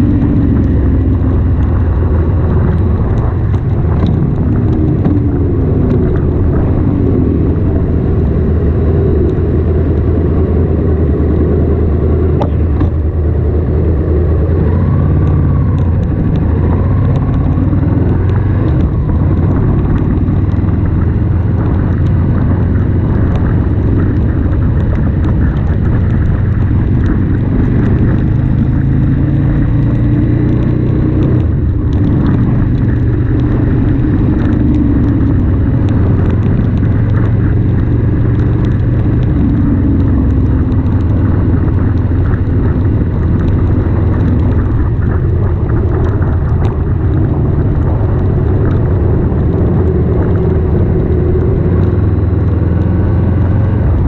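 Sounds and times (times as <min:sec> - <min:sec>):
motorcycle engine rumbling: 0:00.0 - 0:54.0
wind and wet road hiss: 0:00.2 - 0:54.0.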